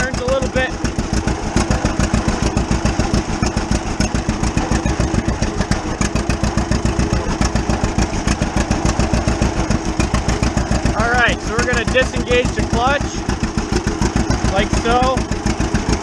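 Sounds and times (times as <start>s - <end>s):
tractor engine exhaust popping: 0.0s - 16.0s.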